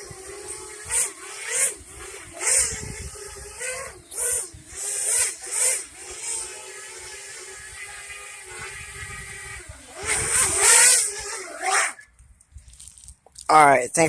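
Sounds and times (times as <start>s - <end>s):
drone motors whining: 0.0s - 13.1s.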